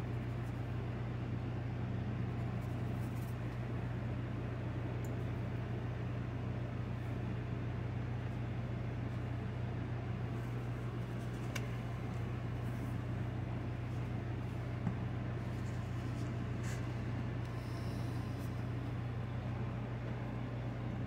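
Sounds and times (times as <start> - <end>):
machine humming and hissing: 0.0 - 21.0.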